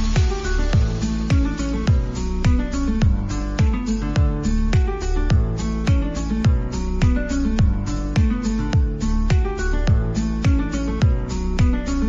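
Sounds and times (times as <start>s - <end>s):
kick drum beat: 0.0s - 12.0s
plucked guitar: 0.0s - 12.0s.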